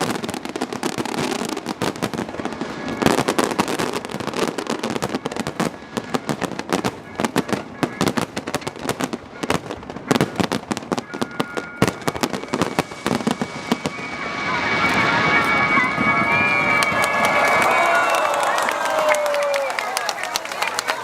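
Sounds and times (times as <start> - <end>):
fireworks cracking and banging: 0.0 - 21.0.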